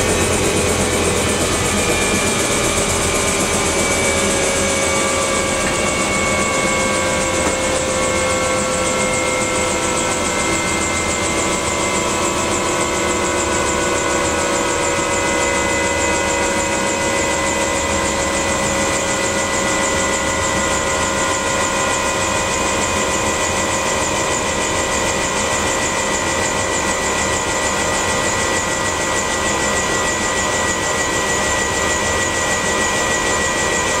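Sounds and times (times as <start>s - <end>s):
helicopter turbine whine: 0.0s - 34.0s.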